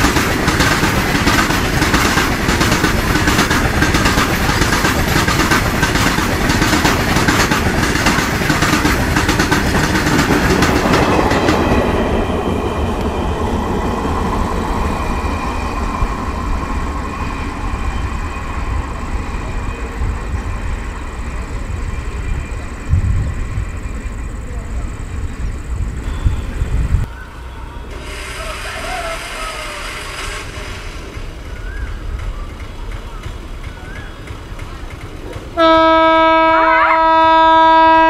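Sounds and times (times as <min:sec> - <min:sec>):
train wheels clattering: 0:00.0 - 0:23.8, 0:28.0 - 0:36.7
faint train rumble: 0:00.0 - 0:38.0.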